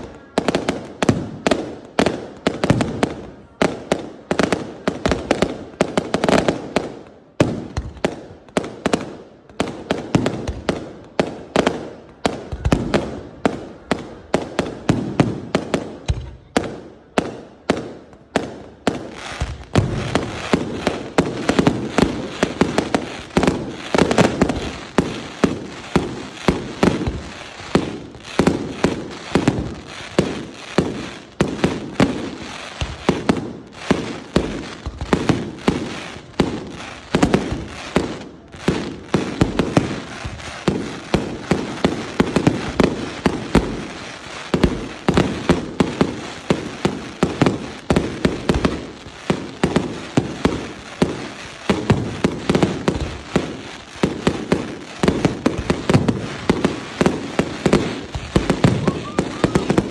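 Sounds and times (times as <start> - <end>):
fireworks launching and bursting: 0.0 - 59.9.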